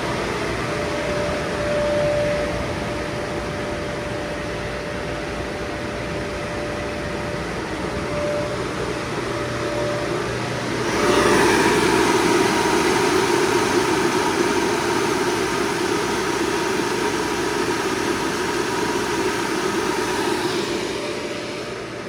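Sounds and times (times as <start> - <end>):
air-conditioning unit droning: 0.0 - 22.0
faint steady whine: 0.0 - 22.0.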